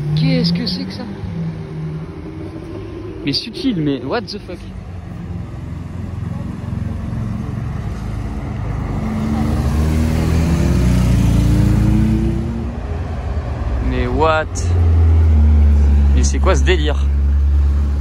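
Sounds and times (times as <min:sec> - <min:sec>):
motorcycle passing: 0:00.0 - 0:18.0
sports car driving past: 0:00.0 - 0:18.0.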